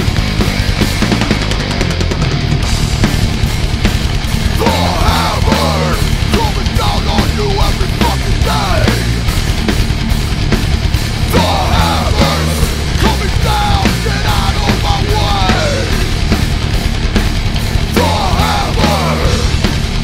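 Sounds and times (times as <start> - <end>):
heavy metal band playing: 0.0 - 20.0.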